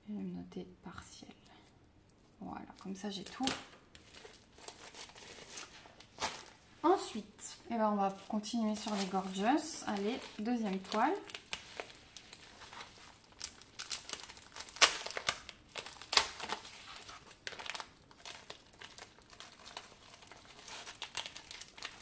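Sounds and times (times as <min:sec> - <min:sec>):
plastic wrapping crinkling: 0:02.2 - 0:22.0.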